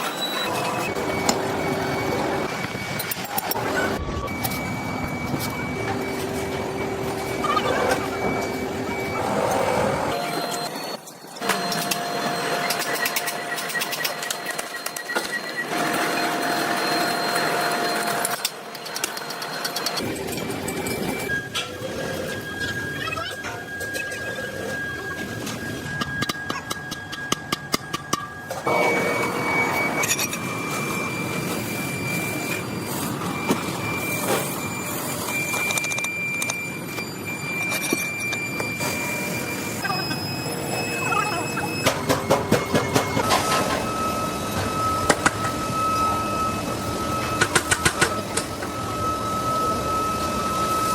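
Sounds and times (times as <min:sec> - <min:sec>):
industrial machinery whining: 0:00.0 - 0:50.9.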